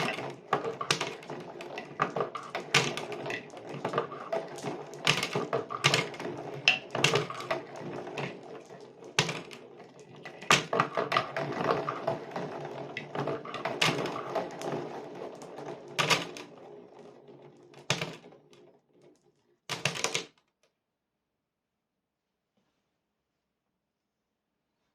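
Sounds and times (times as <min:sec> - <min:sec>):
marbles rolling down a marble run: 0:00.0 - 0:20.3.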